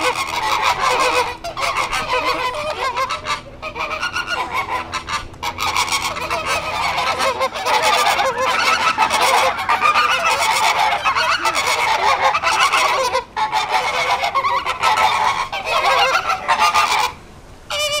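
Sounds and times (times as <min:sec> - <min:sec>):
flamingos honking: 0:00.0 - 0:18.0.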